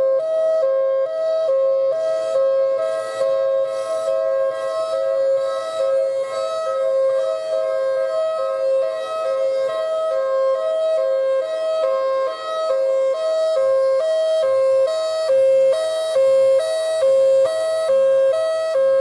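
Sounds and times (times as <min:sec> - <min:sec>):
two-tone siren: 0:00.0 - 0:19.0.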